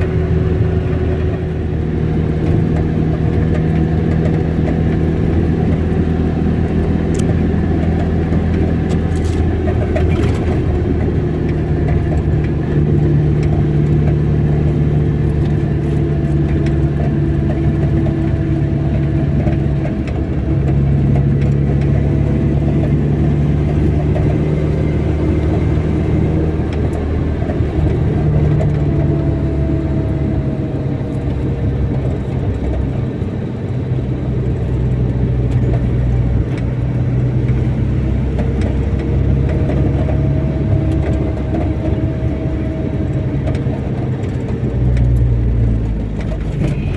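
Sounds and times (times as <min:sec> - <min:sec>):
car engine hum: 0:00.0 - 0:46.9
road noise: 0:00.0 - 0:46.9.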